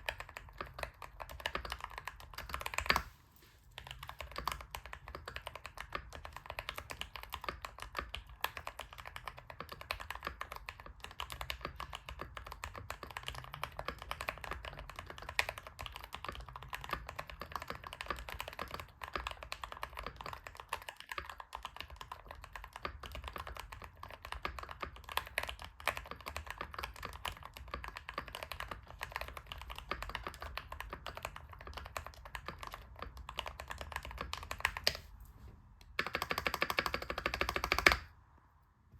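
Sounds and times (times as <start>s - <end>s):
mechanical keyboard typing: 0.0s - 3.2s, 3.8s - 35.1s, 36.0s - 38.1s.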